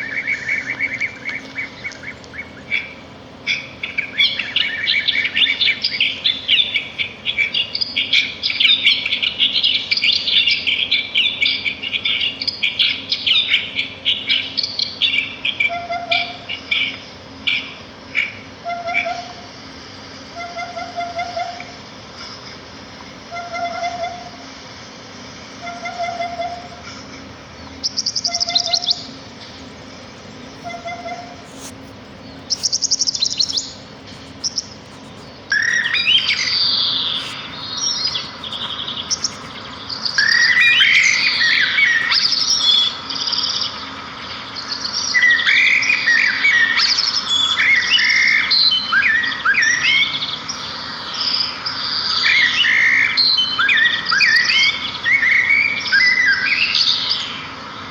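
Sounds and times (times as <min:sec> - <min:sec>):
small songbirds chirping: 0:00.0 - 0:18.4, 0:19.3 - 0:57.9.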